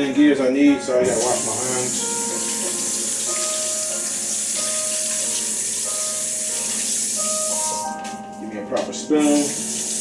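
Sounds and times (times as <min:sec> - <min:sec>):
tap water running into sink: 0:01.0 - 0:10.0.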